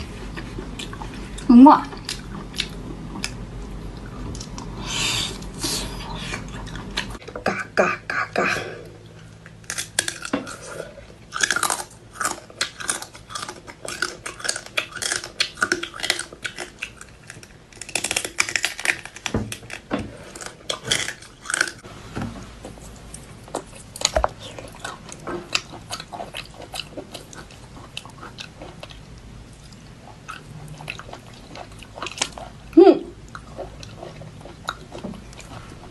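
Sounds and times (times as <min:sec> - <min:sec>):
person chewing and crunching food: 0:00.0 - 0:07.2, 0:08.5 - 0:21.9, 0:22.7 - 0:35.9.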